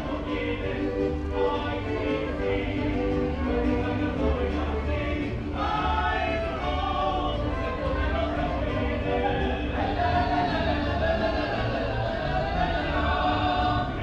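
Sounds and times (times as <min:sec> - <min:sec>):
mariachi band playing: 0:00.0 - 0:14.0
people singing together: 0:00.0 - 0:14.0.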